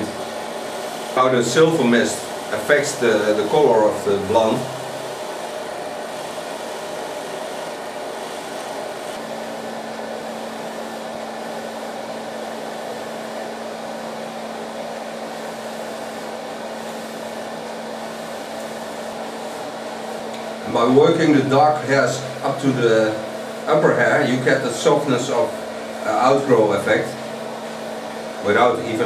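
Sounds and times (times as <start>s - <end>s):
hair dryer blowing: 0.0s - 29.0s
steady hum: 0.0s - 29.0s.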